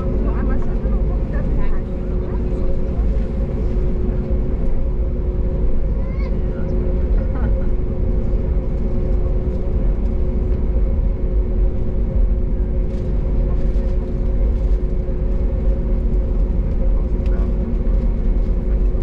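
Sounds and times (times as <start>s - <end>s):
aircraft taxiing rumble: 0.0s - 19.0s
jet engines humming at idle: 0.0s - 19.0s.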